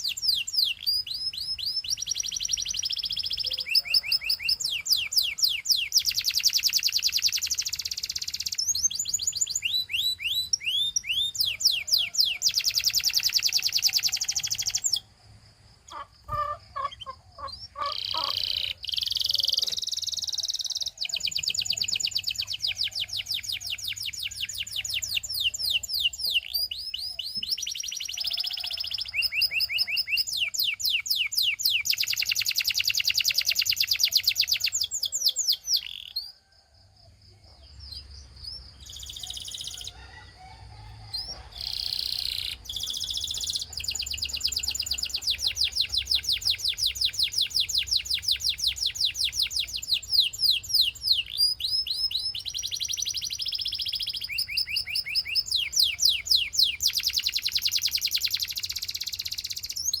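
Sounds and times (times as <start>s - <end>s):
canary singing trills: 0.0s - 15.2s, 15.9s - 36.5s, 37.5s - 40.3s, 41.1s - 60.0s.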